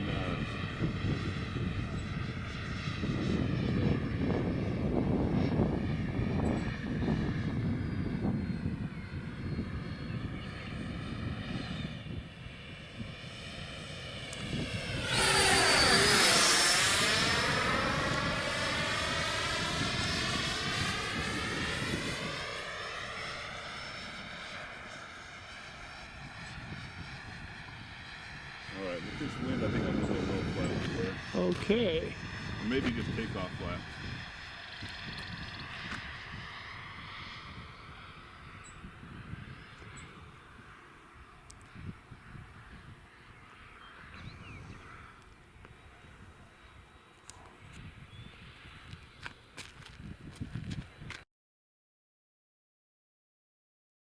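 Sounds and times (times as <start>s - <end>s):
model jet fan whining: 0.0s - 49.3s
wind rumbling on microphone: 0.0s - 51.2s.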